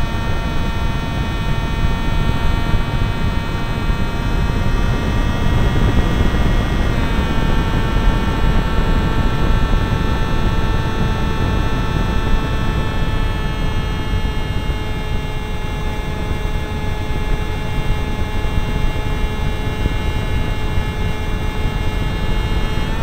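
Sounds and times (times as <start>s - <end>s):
model aircraft motor whine: 0.0s - 23.0s
wind rush on microphone: 0.0s - 23.0s.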